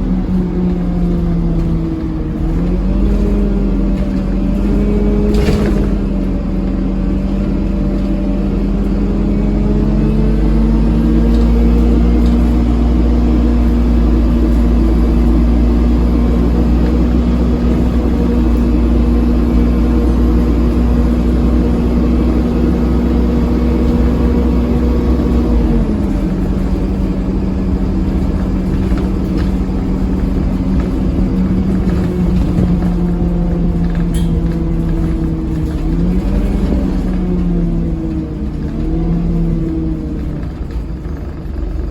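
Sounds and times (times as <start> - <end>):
bus engine droning: 0.0 - 41.9.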